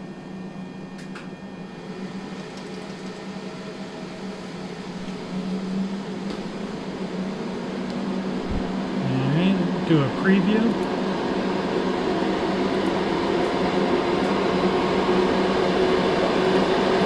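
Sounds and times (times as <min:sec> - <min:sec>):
fans humming: 0:00.0 - 0:17.0.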